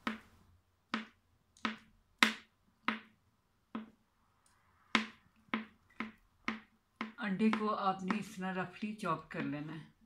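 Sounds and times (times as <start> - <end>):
knife chopping on plastic board: 0.0 - 4.0, 4.9 - 10.0.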